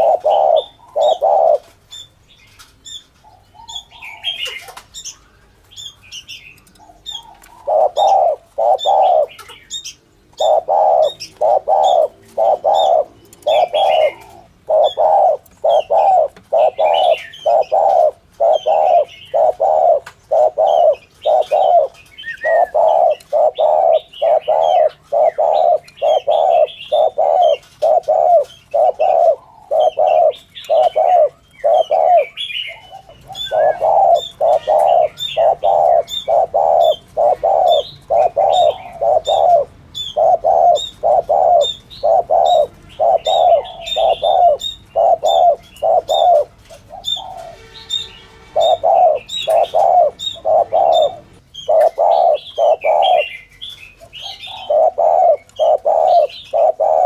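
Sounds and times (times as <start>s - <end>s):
dove cooing: 0.0s - 2.2s, 2.8s - 5.2s, 6.6s - 57.0s
small birds chirping: 0.0s - 57.0s.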